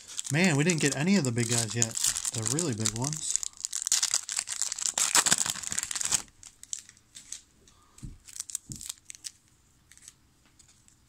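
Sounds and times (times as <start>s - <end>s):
wrapper crinkling and tearing: 0.0s - 7.5s, 8.2s - 10.2s.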